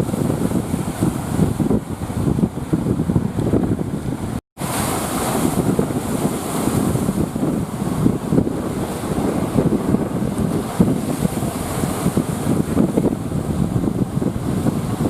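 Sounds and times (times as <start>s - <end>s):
sea surf rushing: 0.0s - 15.0s
wind buffeting the microphone: 0.0s - 15.0s.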